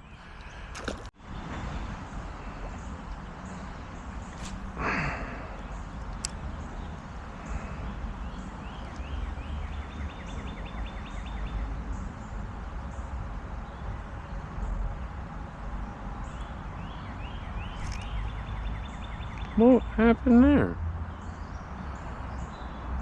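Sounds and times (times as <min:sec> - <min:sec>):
low rumble of creek: 0:00.0 - 0:21.2.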